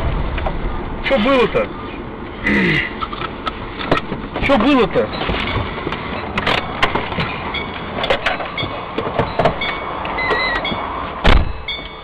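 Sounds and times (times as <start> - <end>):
vehicle running: 0.0 - 12.0.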